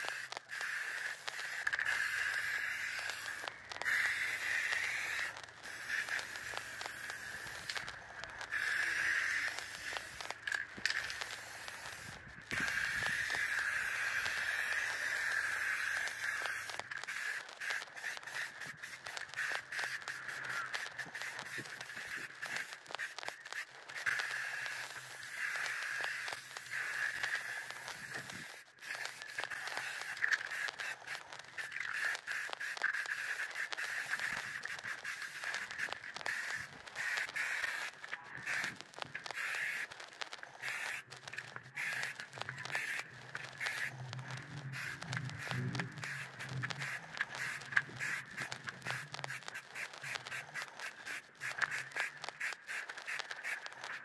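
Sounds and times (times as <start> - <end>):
aerosol spray can hissing: 0.0 - 54.0.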